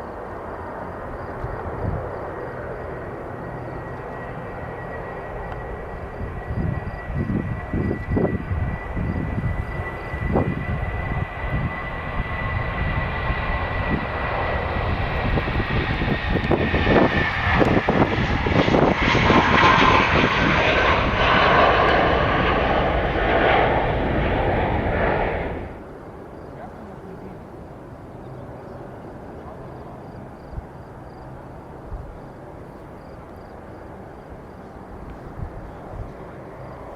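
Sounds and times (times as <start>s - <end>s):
airliner engines whining: 0.0s - 36.9s.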